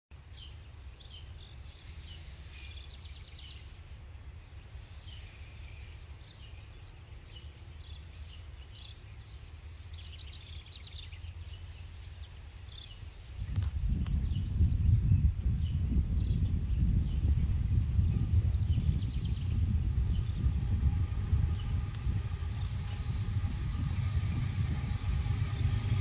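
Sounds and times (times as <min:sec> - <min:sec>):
low outdoor rumble: 0:00.6 - 0:26.0.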